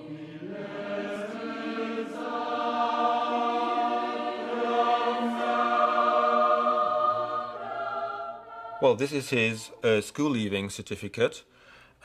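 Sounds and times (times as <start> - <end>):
choir singing held chords: 0.0 - 9.7.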